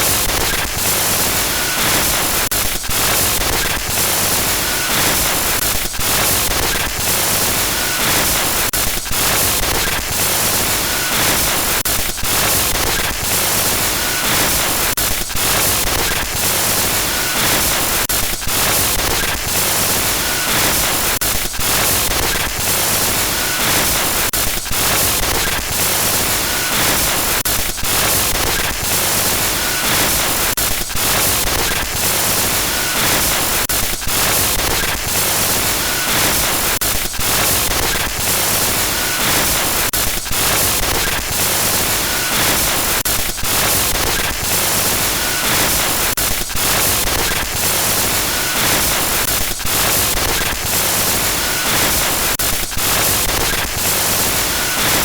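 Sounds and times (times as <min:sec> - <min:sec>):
glitch static hiss: 0:00.0 - 0:55.0.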